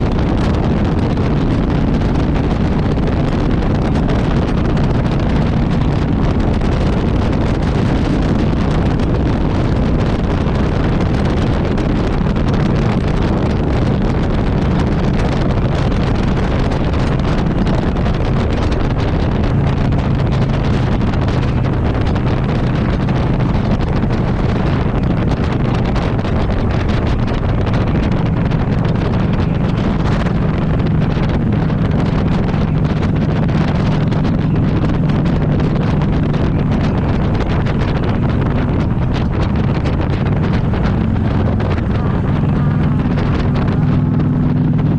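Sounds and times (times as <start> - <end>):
vehicle running: 0.0 - 44.9
wind and road noise: 0.0 - 44.9.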